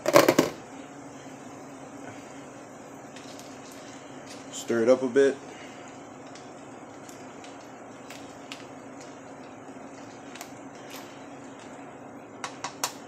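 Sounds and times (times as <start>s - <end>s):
pot bubbling: 1.6s - 13.0s.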